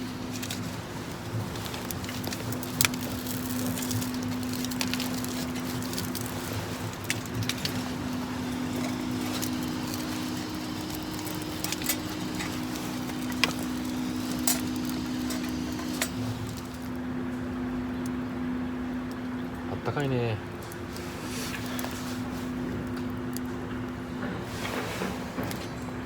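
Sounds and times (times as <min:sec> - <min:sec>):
steady low hum: 0:00.0 - 0:24.4
wood fire crackling: 0:00.0 - 0:26.0.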